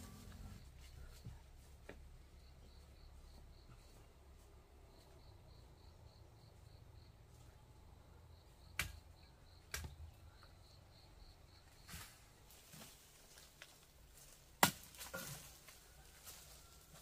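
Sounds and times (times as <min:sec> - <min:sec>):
faint insect chirping: 0:00.0 - 0:14.5.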